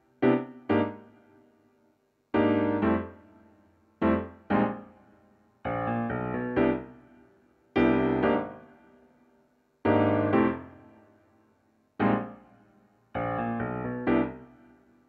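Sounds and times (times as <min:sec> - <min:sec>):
solo piano chords: 0:00.0 - 0:01.5, 0:02.4 - 0:09.1, 0:09.8 - 0:15.0.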